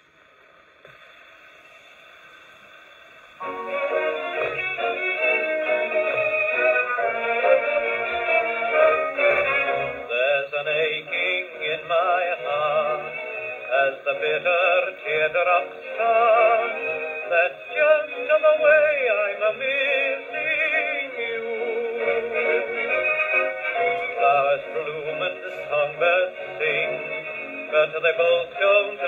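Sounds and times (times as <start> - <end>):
gramophone playing dance-band song: 3.4 - 29.0.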